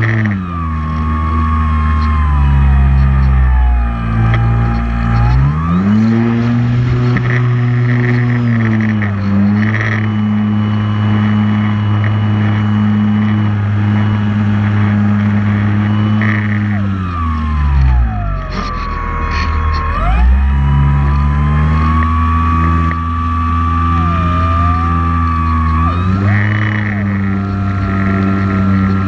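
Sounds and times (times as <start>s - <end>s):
drone propellers humming: 0.0s - 29.0s.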